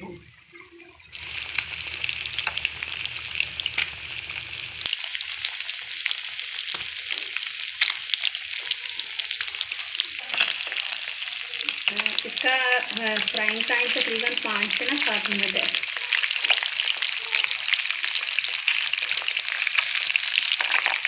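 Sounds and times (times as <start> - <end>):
fish frying in hot fat: 0.2 - 21.0.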